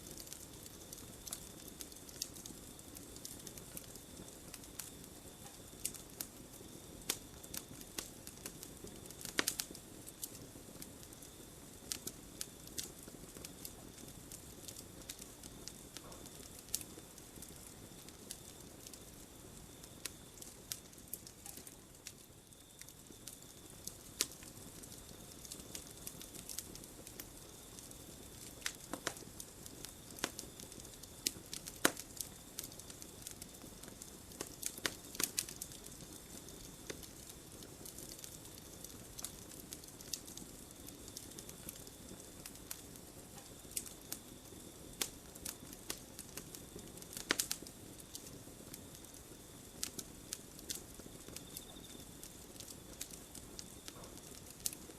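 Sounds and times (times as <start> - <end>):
campfire crackling: 0.0 - 54.9
soft steady hiss: 0.0 - 54.9.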